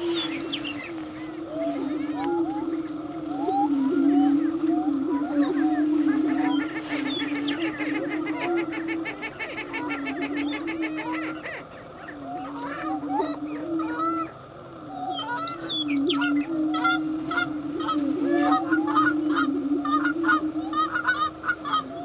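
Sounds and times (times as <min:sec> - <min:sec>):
cackling and whooping bird calls: 0:00.0 - 0:22.0.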